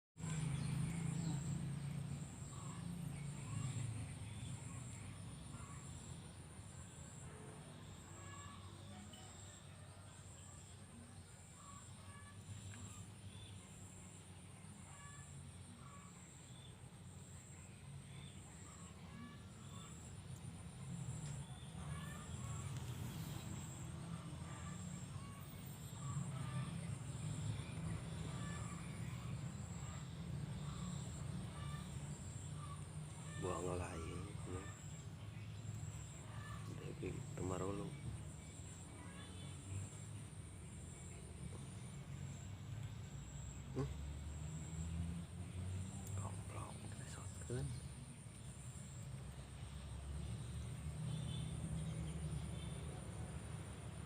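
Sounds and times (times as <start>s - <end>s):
faint bird chirps: 0.2s - 54.0s
insects trilling: 0.2s - 54.0s.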